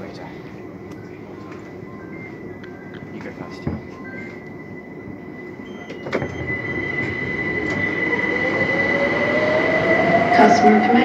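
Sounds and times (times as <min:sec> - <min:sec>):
electric train rumble: 0:00.0 - 0:11.0
steady high-pitched whine: 0:00.0 - 0:11.0
whine rising in pitch: 0:00.6 - 0:11.0.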